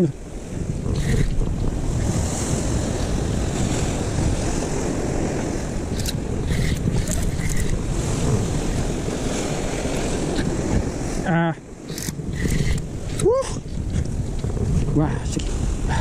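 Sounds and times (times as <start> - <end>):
waves washing against rocks: 0.0 - 16.0
wind buffeting microphone: 0.0 - 16.0.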